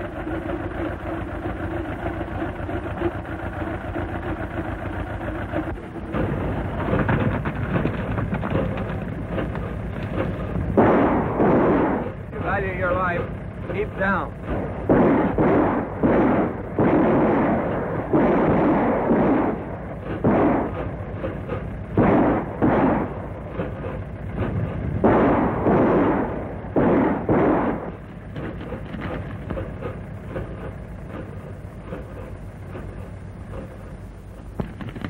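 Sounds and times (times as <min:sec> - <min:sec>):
echoing gunshots: 0:01.4 - 0:32.1, 0:34.5 - 0:35.0.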